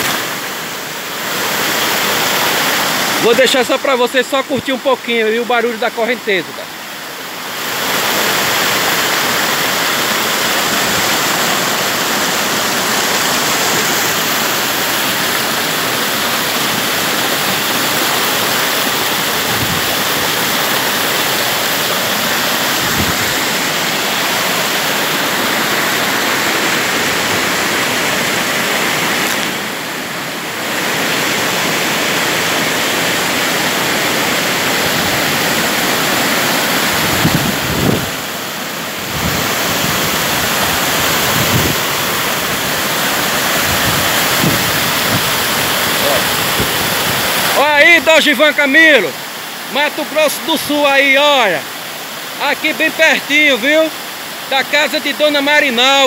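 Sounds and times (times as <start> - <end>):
waterfall and rapids rushing: 0.0 - 56.0.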